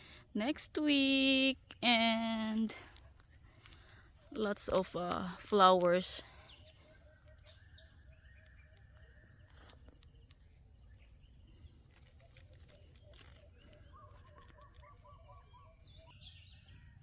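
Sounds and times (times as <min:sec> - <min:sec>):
faint chirps: 0:00.0 - 0:17.0
insect chorus: 0:00.0 - 0:17.0.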